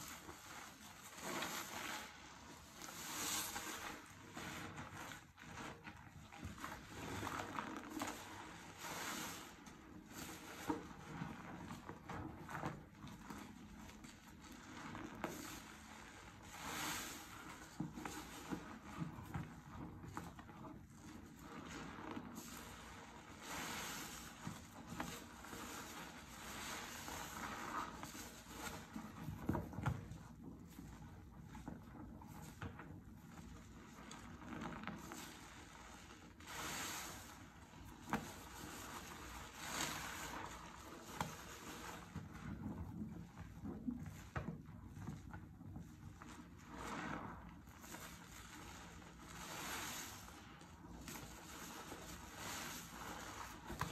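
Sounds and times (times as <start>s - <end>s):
sponge squelching in lather: 0.0s - 53.9s.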